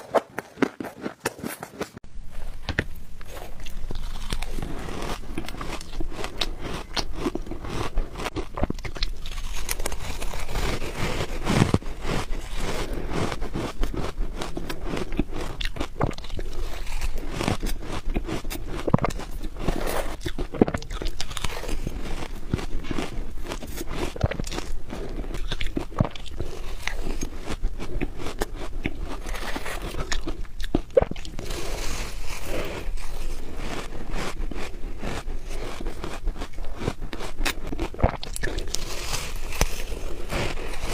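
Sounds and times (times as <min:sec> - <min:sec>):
crunching ice being chewed: 0:00.0 - 0:02.0, 0:03.2 - 0:40.9.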